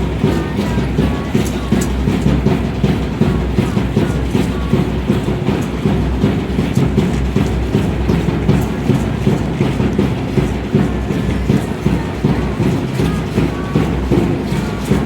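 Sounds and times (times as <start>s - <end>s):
fast loud drumming: 0.0s - 15.0s.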